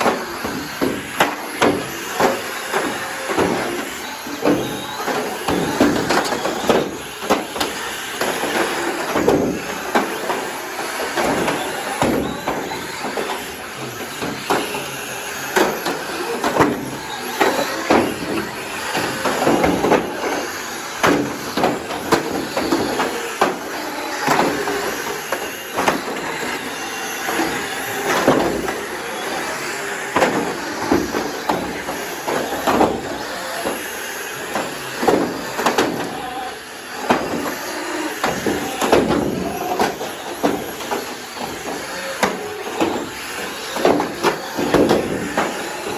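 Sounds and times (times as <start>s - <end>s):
toy car motors whirring: 0.0s - 45.9s
toy cars colliding: 0.0s - 45.9s.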